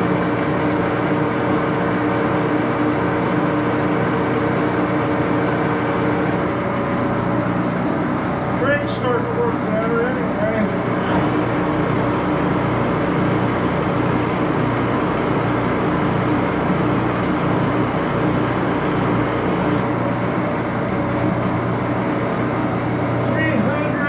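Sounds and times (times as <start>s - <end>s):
lathe gears humming: 0.0s - 24.0s.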